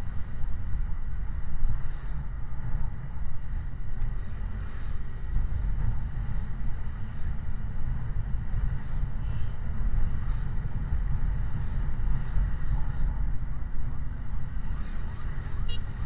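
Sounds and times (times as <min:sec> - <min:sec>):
vehicle rumbling: 0:00.0 - 0:16.0.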